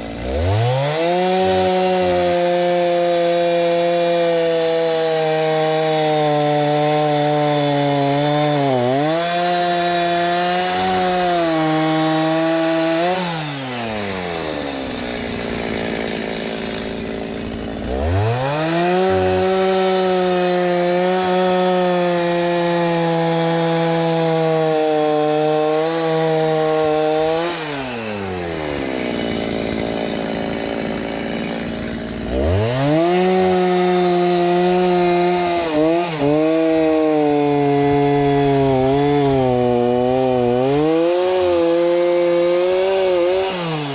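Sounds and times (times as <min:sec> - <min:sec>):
chainsaw revving and idling: 0:00.0 - 0:43.9.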